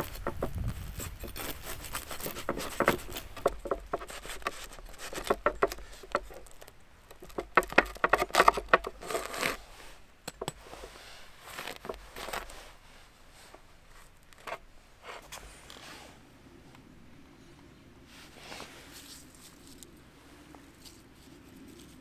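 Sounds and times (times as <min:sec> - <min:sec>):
rustling of things handled: 0:00.0 - 0:16.2, 0:18.0 - 0:22.0.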